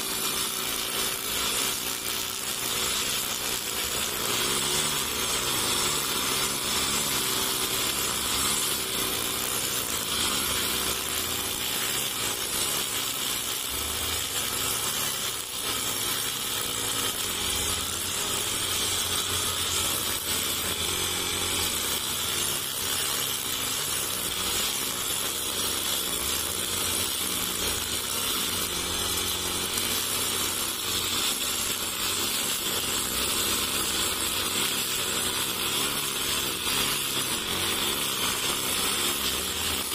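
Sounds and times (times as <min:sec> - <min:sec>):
brush cutter cutting grass: 0:00.0 - 0:39.9.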